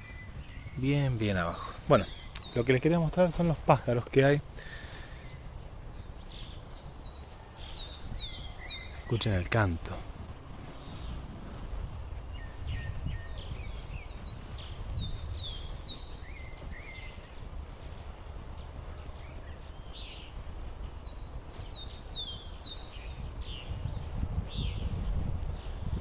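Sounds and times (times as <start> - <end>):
songbirds whistling: 0.0 - 26.0
steady low rumble: 0.0 - 26.0.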